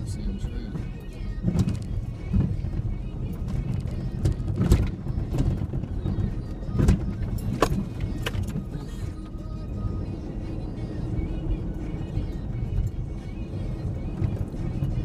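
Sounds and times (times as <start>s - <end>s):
truck engine and tyres rumbling: 0.0s - 15.0s.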